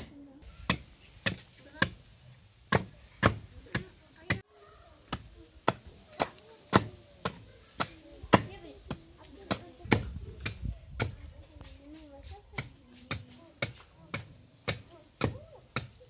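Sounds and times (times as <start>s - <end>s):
hatchet chopping wood: 0.0s - 2.0s, 2.7s - 4.4s, 5.1s - 11.3s, 12.6s - 16.0s.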